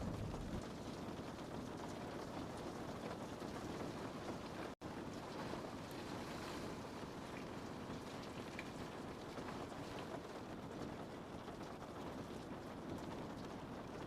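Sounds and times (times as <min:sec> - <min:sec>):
rain on window pane: 0:00.0 - 0:14.0.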